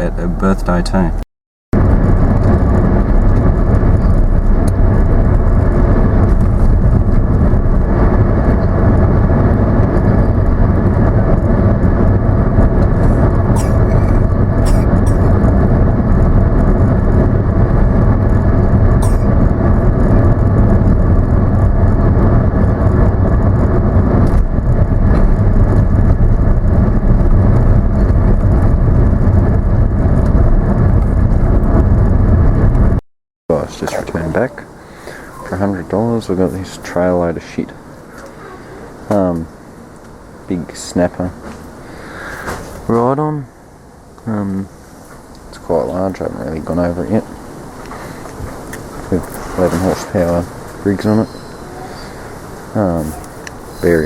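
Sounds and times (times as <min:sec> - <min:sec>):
car engine and road noise: 0:00.0 - 0:01.2, 0:01.8 - 0:54.0.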